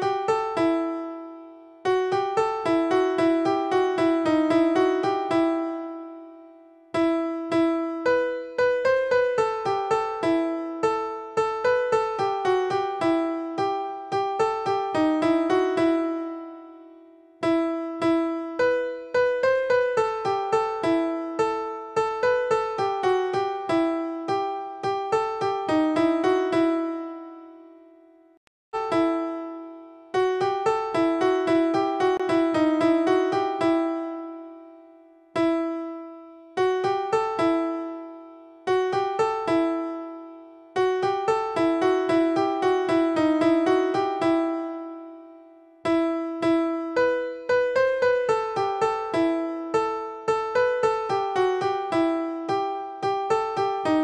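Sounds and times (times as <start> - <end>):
keyboard melody: 0.0 - 28.2, 28.8 - 54.0.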